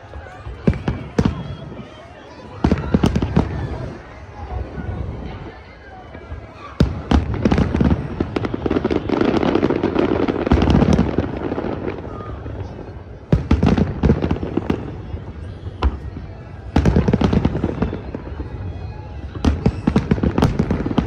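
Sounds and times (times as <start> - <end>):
fireworks exploding: 0.0 - 21.0.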